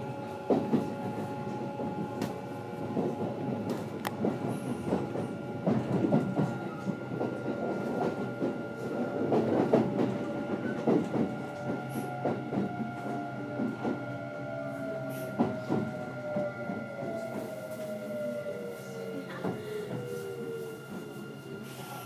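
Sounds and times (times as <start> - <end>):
train equipment hum: 0.0 - 22.0.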